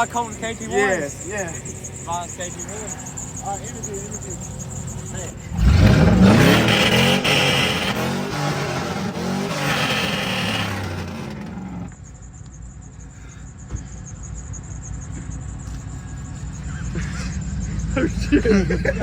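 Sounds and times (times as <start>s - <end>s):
vehicle engine revving: 0.0s - 12.0s, 13.8s - 19.0s.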